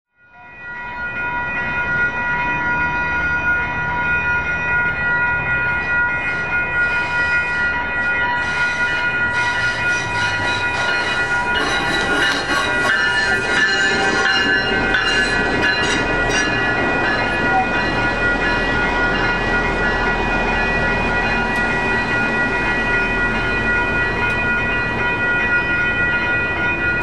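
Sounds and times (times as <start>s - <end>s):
train engine and wheel rumble: 0.2s - 27.0s
steady high tones: 0.3s - 27.0s.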